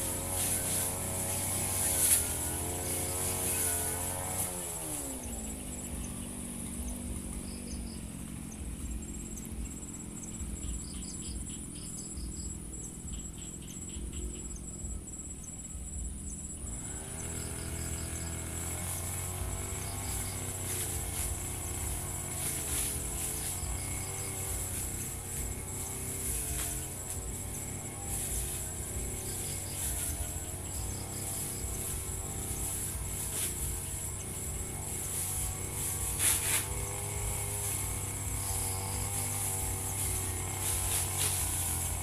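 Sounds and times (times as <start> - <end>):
brush cutter engine: 0.0 - 42.0.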